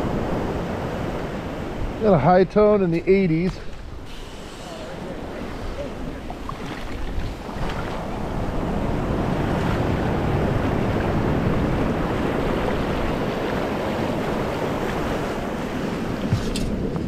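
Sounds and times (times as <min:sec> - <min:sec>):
surf washing over sand: 0:00.0 - 0:17.0
wind buffeting microphone: 0:03.0 - 0:17.0.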